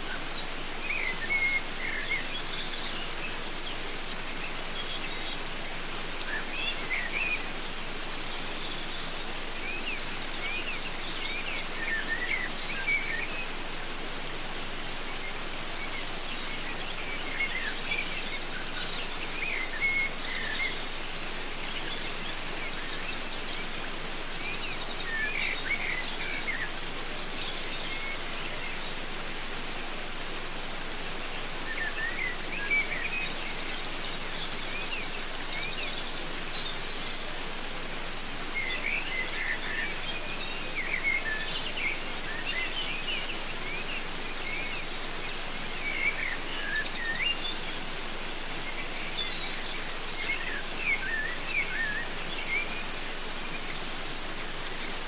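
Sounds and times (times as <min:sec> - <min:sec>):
small birds chirping: 0:00.0 - 0:55.0
waterfall rushing: 0:00.0 - 0:55.0.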